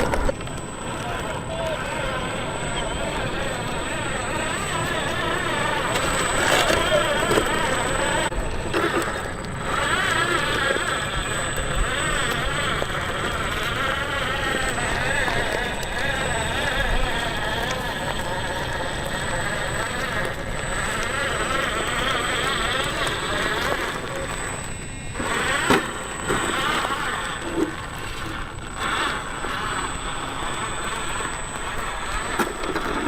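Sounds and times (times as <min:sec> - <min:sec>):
remote-control truck motor whining: 0:00.0 - 0:33.0.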